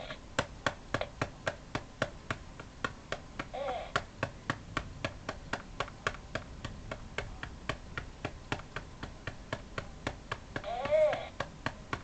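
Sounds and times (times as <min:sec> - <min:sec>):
hand patting hard plastic: 0:00.0 - 0:12.0.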